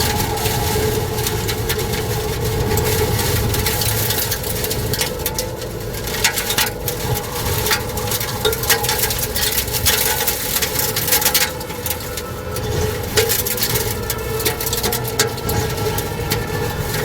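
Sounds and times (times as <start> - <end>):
strong wind rushing: 0.0 - 17.0.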